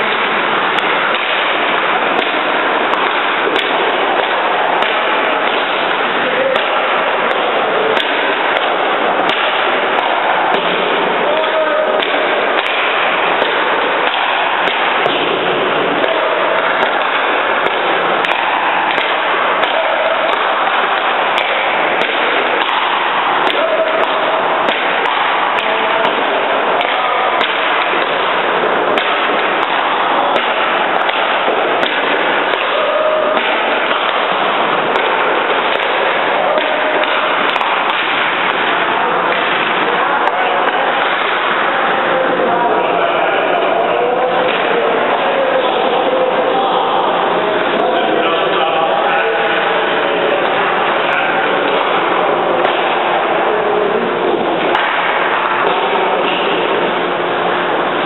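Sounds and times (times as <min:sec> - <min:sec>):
indoor ice rink din: 0:00.0 - 0:58.0
pucks and sticks striking ice: 0:00.0 - 0:58.0.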